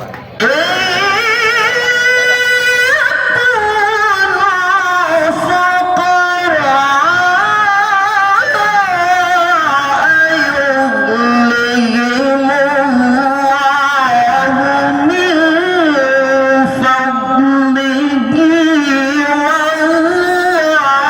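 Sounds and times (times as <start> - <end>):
man reciting melodically: 0.4 - 21.0.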